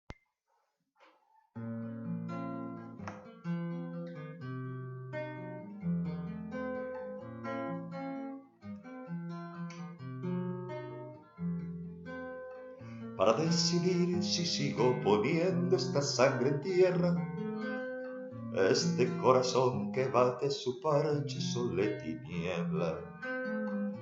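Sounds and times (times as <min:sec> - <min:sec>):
acoustic guitar strumming: 0:01.6 - 0:24.0.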